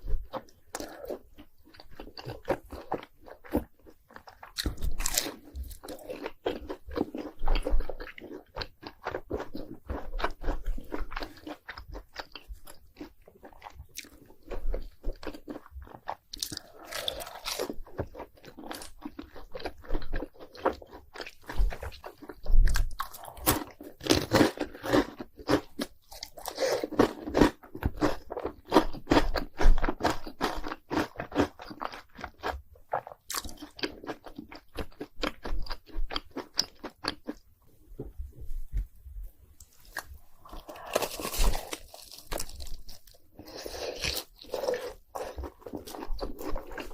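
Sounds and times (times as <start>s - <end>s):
crunching and chewing snacks: 0.1s - 37.4s, 39.6s - 46.9s.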